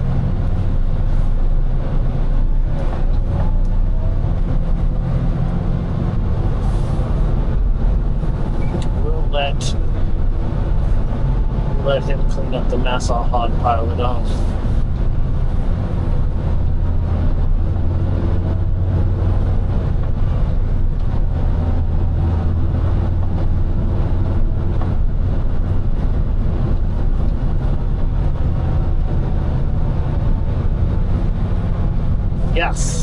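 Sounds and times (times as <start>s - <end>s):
diesel engine droning under load: 0.0s - 33.0s.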